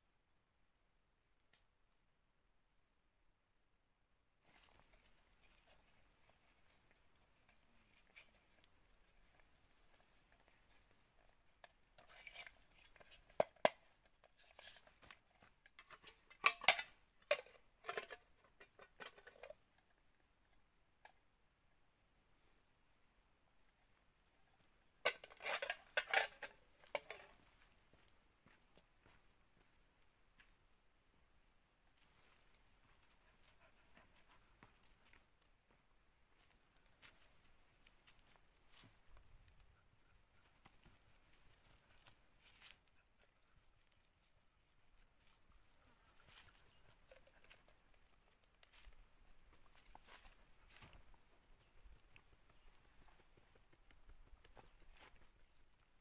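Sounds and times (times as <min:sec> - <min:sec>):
insect chirping: 0:00.0 - 0:56.0
leaves and twigs rustling: 0:04.4 - 0:20.5, 0:25.0 - 0:30.5, 0:31.9 - 0:56.0.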